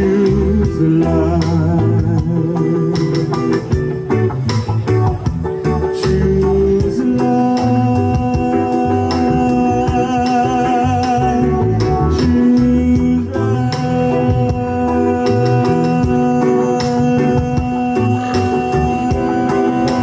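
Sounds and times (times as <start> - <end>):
live reggae band: 0.0 - 20.0.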